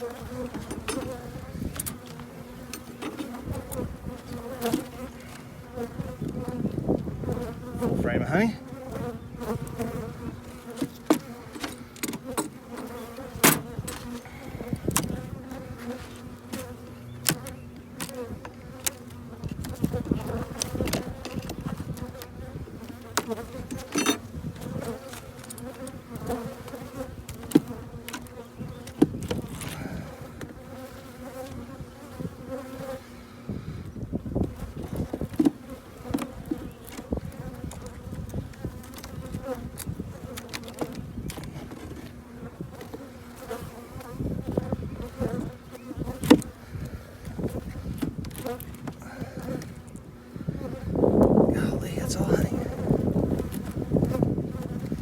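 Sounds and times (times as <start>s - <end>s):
hive frames clicking and knocking: 0.0s - 6.6s, 8.8s - 30.7s, 34.4s - 50.0s
bees buzzing: 0.0s - 55.0s.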